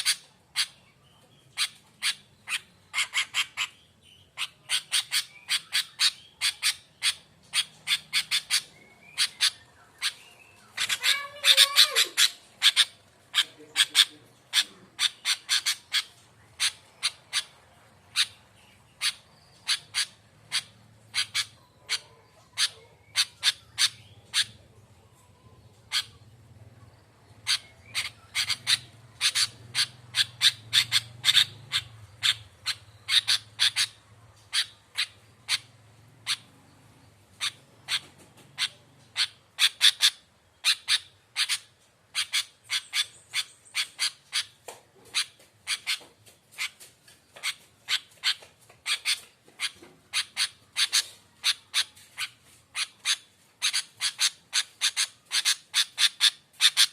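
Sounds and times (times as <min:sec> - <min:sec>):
bird chattering calls: 0:00.0 - 0:56.9.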